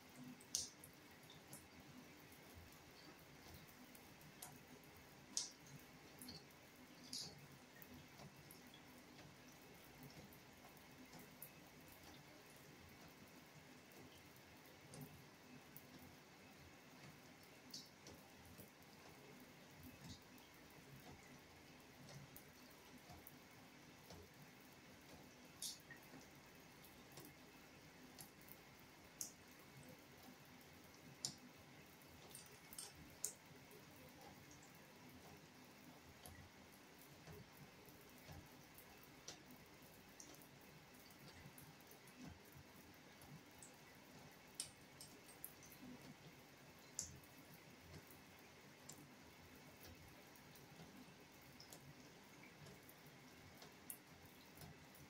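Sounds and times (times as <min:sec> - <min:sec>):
bathroom fan hum: 0:00.0 - 0:55.0
water drips on tub: 0:00.1 - 0:55.0.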